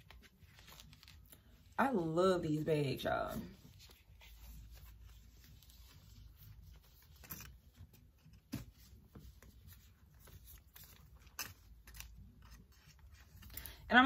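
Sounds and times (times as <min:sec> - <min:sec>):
fabric strap rustling: 0:00.0 - 0:01.8, 0:03.2 - 0:13.8.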